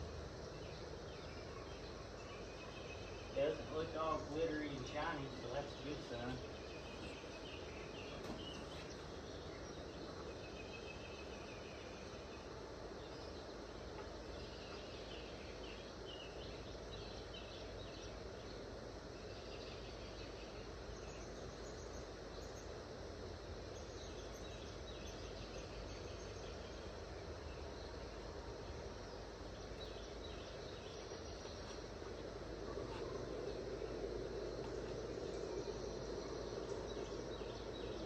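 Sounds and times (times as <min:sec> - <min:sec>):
birds chirping: 0:00.0 - 0:38.0
outdoor background noise: 0:00.0 - 0:38.0.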